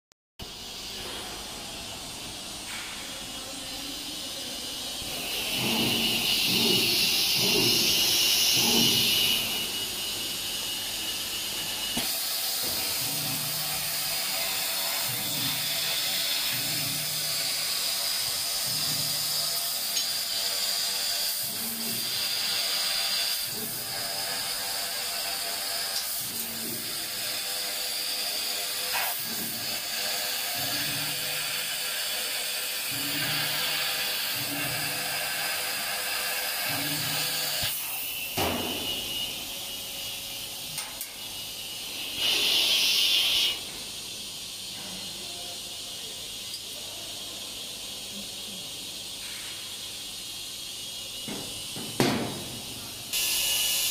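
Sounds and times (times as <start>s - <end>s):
laser cutter hiss: 0.4s - 53.9s
machine motor hum: 0.5s - 45.2s.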